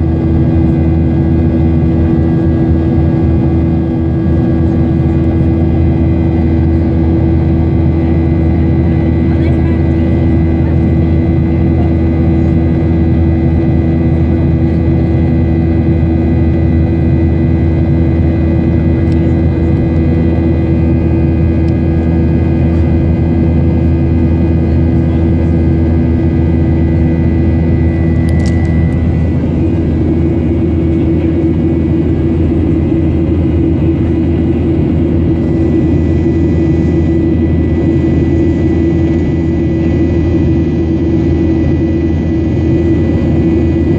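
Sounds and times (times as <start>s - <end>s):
jet engines droning with whine: 0.0s - 43.9s.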